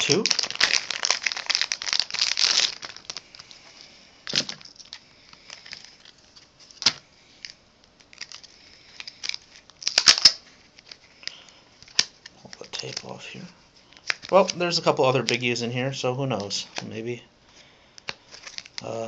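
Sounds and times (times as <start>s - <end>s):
plastic packaging crinkling: 0.0s - 15.6s, 18.0s - 19.0s.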